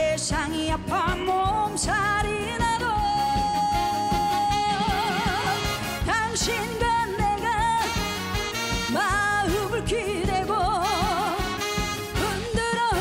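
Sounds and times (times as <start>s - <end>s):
live band with steady beat: 0.0s - 13.0s
woman singing with heavy vibrato: 0.0s - 13.0s.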